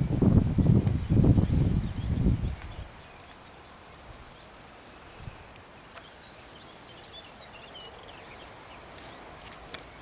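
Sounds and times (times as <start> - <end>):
quiet hiss: 0.0 - 10.0.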